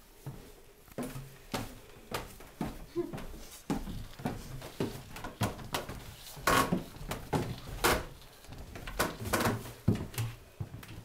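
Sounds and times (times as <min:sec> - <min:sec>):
footsteps on wooden stairs: 0:00.2 - 0:11.0.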